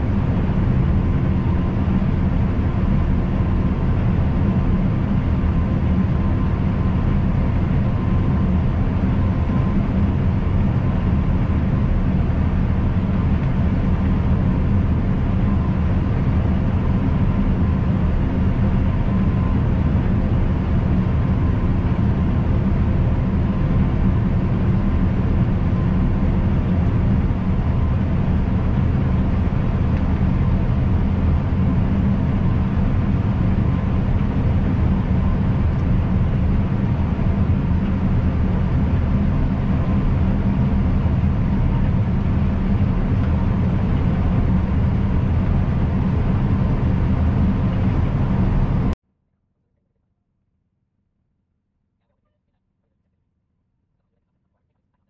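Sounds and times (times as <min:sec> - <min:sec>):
combine harvester drone: 0:00.0 - 0:49.0.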